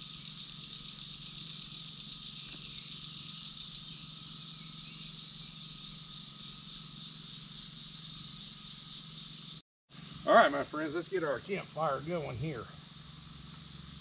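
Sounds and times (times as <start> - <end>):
chorus of calling wildlife: 0.0 - 14.0.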